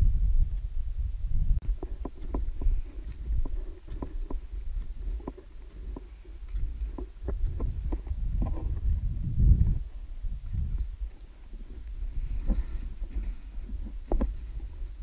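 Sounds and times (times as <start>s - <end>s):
low microphone rumble: 0.0s - 15.0s
trekking pole planting: 1.6s - 15.0s.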